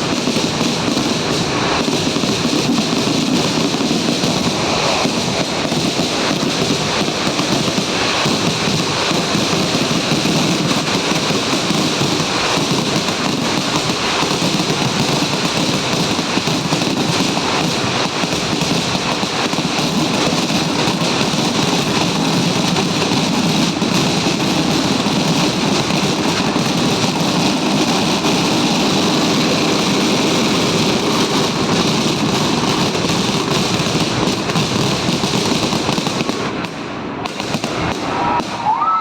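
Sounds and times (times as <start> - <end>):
firecrackers crackling: 0.0 - 39.0.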